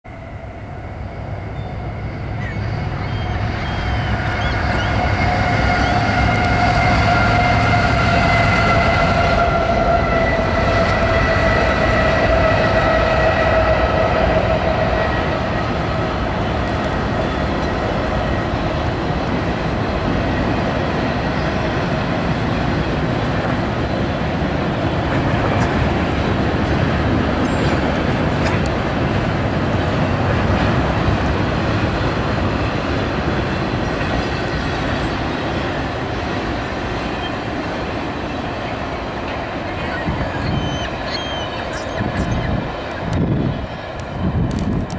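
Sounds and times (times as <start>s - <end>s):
freight train wheels on rails: 0.1s - 44.9s.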